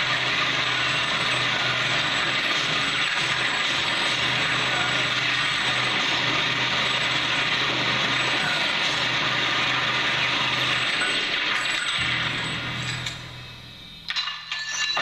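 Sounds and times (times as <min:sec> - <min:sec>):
dense mechanical rattling: 0:00.0 - 0:13.4.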